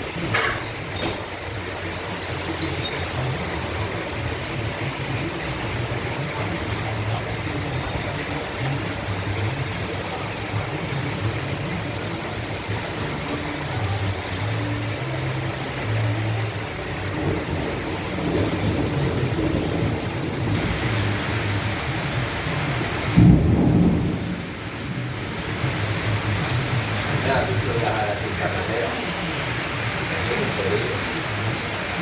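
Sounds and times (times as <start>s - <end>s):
heavy rain downpour: 0.0s - 32.0s.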